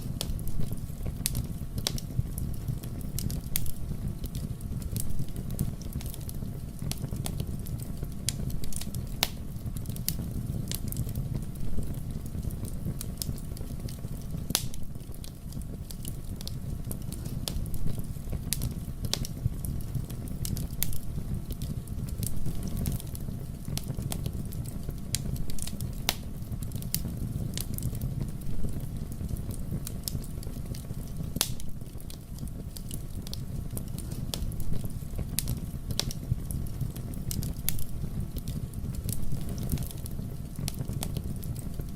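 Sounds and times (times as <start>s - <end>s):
flames rumbling: 0.0s - 41.9s
logs crackling and popping: 0.0s - 41.9s.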